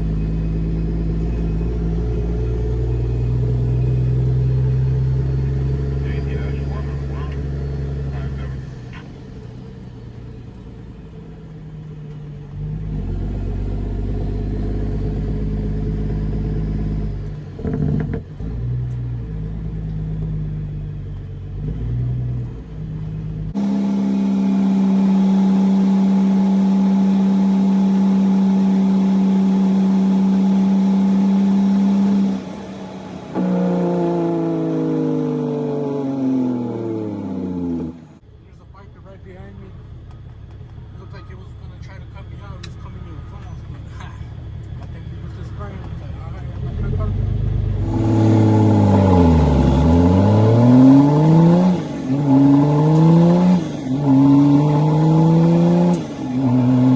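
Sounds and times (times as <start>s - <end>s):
truck diesel engine: 0.0s - 56.9s.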